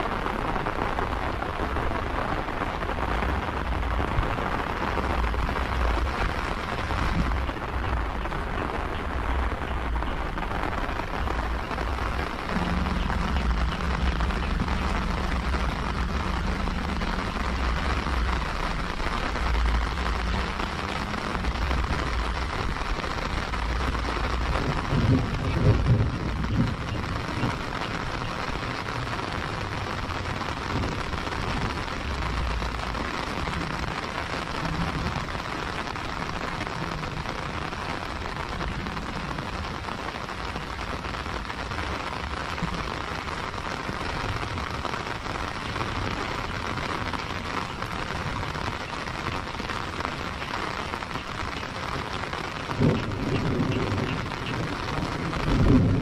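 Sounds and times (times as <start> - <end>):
low rumble: 0.0 - 42.8, 52.7 - 56.0
heavy rain on paving: 0.0 - 56.0.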